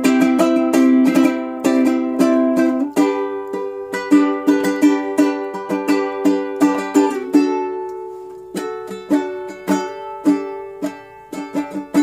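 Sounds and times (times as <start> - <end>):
ukulele strumming chords: 0.0 - 12.0.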